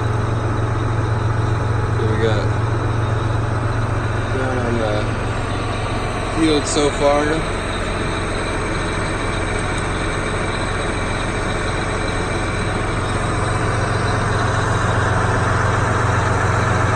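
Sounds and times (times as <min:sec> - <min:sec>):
tractor diesel engine humming: 0:00.0 - 0:16.9.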